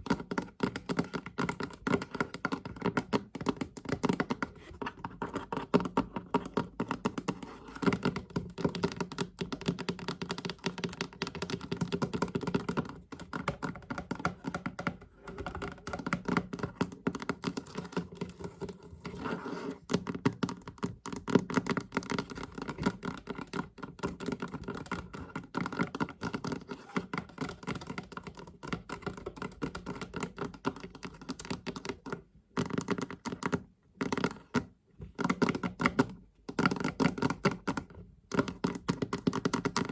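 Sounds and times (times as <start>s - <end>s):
fast tapping on a chest: 0.0s - 39.9s.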